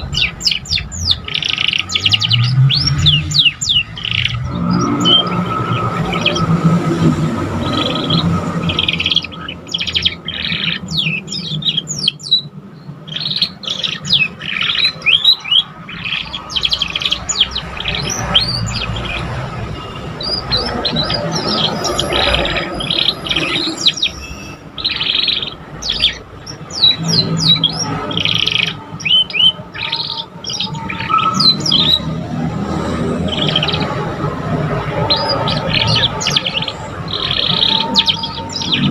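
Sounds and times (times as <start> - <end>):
canaries twittering: 0.0 - 38.9.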